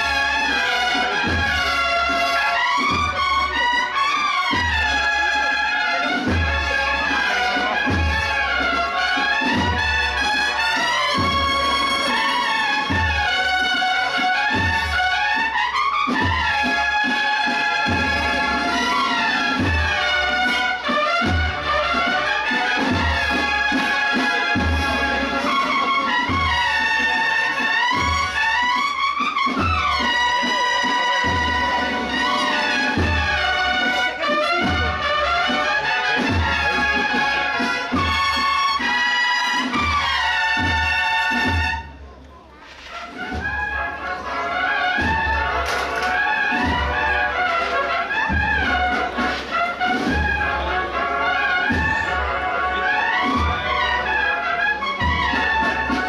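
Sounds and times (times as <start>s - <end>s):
trumpet and trombone chords: 0.0s - 42.0s, 42.7s - 56.0s
brass band melody: 0.0s - 56.0s.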